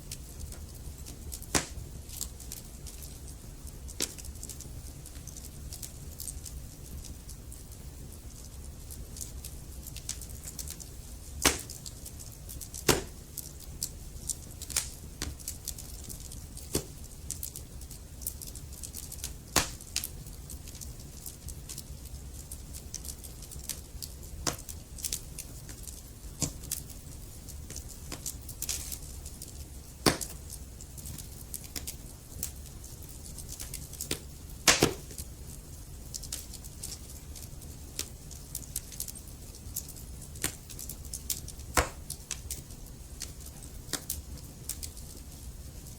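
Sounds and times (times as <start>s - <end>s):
wood fire crackling: 0.0s - 45.9s
sharp fire pops: 0.1s - 45.9s.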